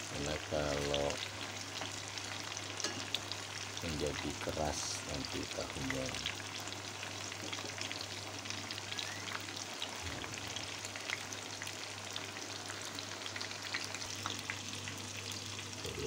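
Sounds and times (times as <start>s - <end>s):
tofu deep-frying in oil: 0.0s - 16.0s.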